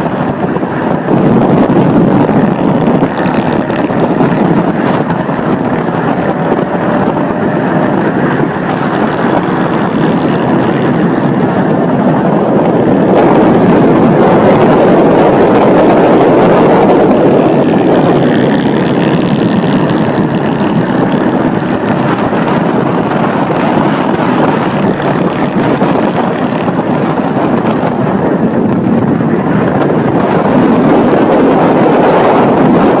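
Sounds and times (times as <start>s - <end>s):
motorcycle exhaust at speed: 0.0s - 33.0s
wind noise on microphone: 0.0s - 33.0s.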